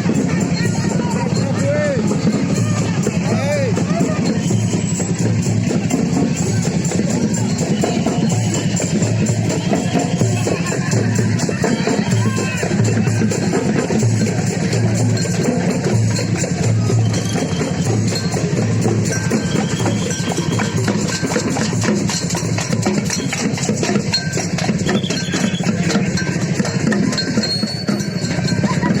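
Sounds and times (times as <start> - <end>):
parade drums beating: 0.0 - 29.0.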